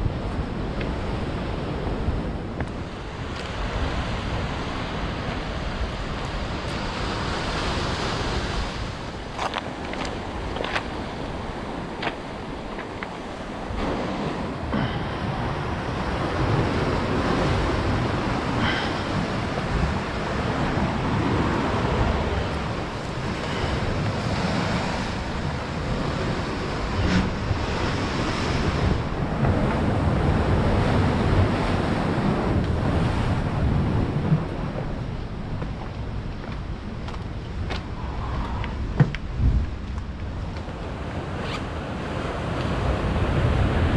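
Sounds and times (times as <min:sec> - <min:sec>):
sea waves washing ashore: 0:00.0 - 0:43.9
wind buffeting microphone: 0:00.0 - 0:43.9.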